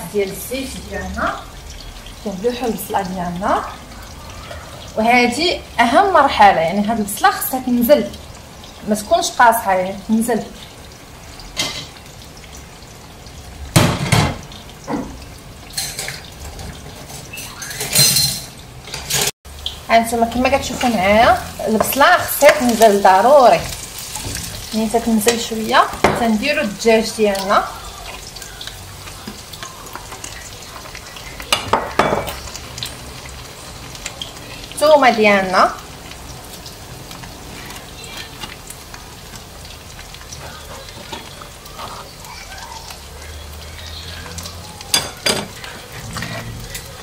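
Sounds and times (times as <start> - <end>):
onions sizzling in oil: 0.0 - 47.0.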